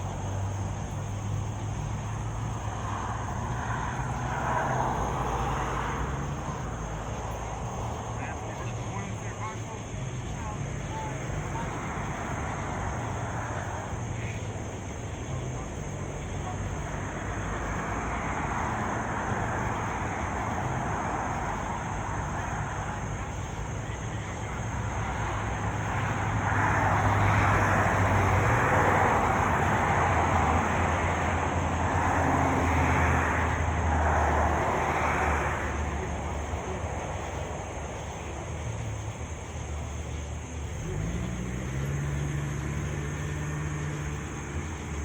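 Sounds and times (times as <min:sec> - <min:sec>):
vehicle engine hum: 0:00.0 - 0:45.0.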